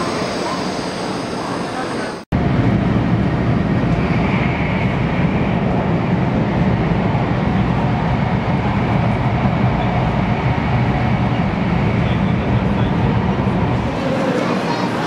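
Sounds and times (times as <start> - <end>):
train rumble inside passenger car: 1.4 - 15.0.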